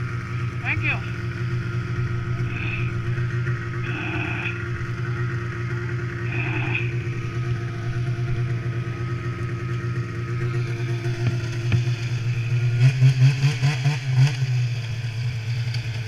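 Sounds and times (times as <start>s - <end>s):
snowmobile engines idling: 0.0s - 16.0s.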